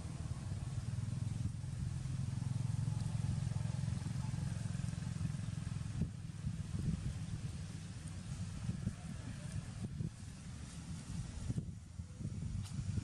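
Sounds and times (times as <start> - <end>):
engine running with pulsing rumble: 0.0 - 13.0.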